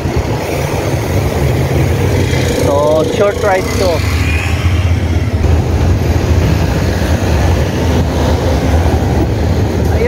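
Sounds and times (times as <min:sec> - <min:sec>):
city traffic: 0:00.0 - 0:10.0
road noise: 0:00.0 - 0:10.0
wind buffeting microphone: 0:00.0 - 0:10.0.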